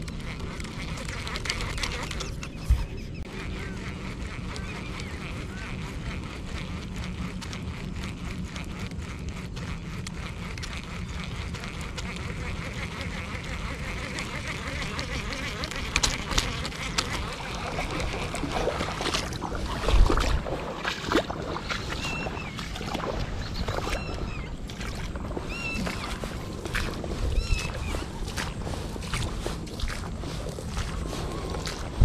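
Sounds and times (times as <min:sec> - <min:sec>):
reel clicks: 0:00.0 - 0:03.2, 0:03.9 - 0:32.0
fishing reel whirring: 0:00.0 - 0:32.0.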